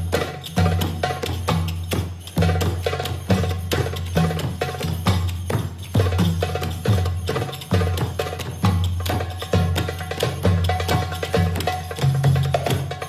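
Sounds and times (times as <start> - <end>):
belly dance percussion music: 0.0 - 13.0.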